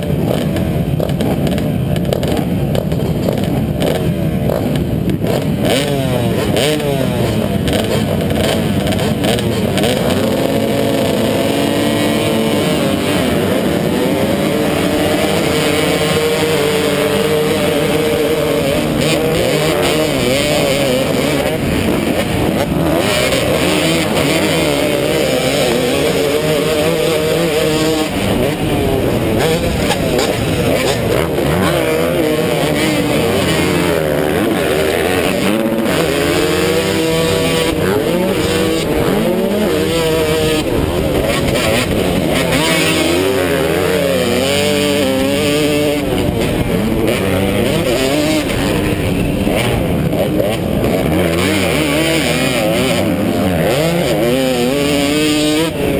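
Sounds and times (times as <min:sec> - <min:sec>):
motocross bike engine revving: 0:00.0 - 0:55.9
other motorbike engines: 0:00.0 - 0:55.9.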